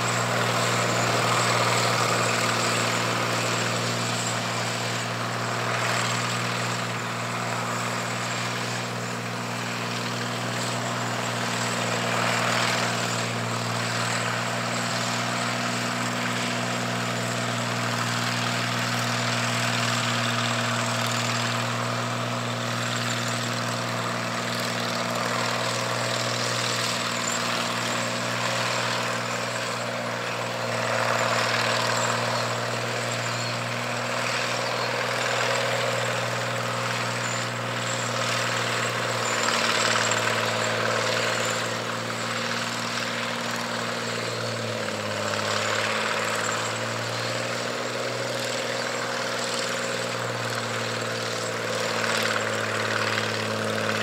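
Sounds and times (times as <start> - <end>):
combine engine hum: 0.0 - 54.0
rushing threshing noise: 0.0 - 54.0.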